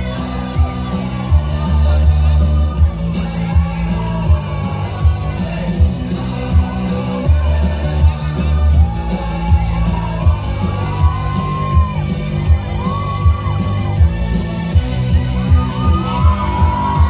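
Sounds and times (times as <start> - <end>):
person singing: 0.0 - 13.7, 15.3 - 17.0
heavy bass beat music: 0.0 - 17.0.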